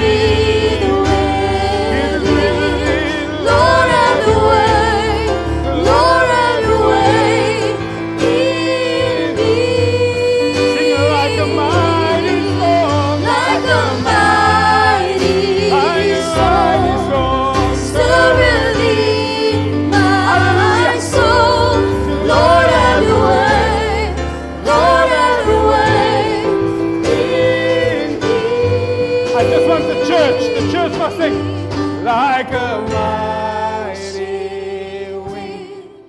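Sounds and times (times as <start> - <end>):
band with bass and keyboard: 0.0 - 36.0
gospel singers with vibrato: 0.0 - 36.0.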